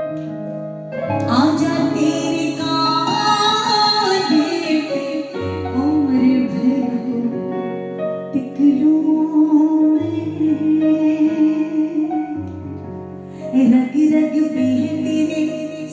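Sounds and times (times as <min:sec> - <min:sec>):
woman singing wordless melody: 0:01.1 - 0:12.5, 0:13.4 - 0:15.9.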